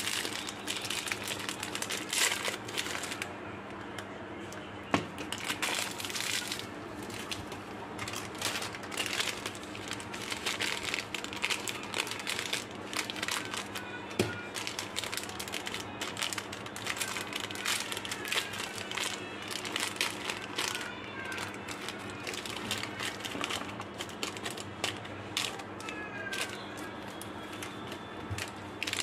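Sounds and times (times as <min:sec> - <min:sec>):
candy wrappers crinkling: 0:00.0 - 0:03.3, 0:05.0 - 0:29.0.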